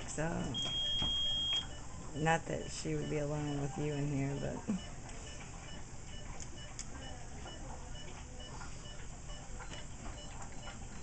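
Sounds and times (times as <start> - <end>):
low hum of equipment: 0.0 - 11.0
patient monitor beeping: 0.0 - 11.0.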